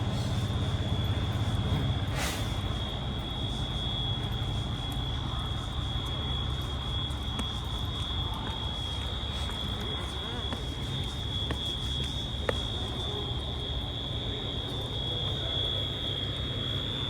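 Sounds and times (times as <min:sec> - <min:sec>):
fire engine idling: 0:00.0 - 0:17.0.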